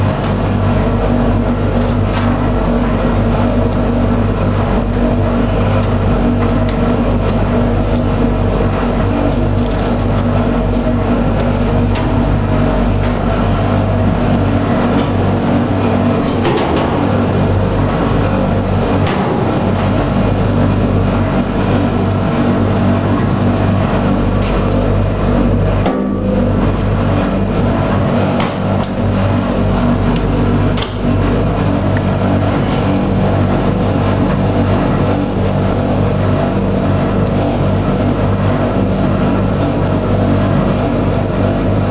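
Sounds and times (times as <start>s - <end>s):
washing machine humming: 0.0s - 41.9s.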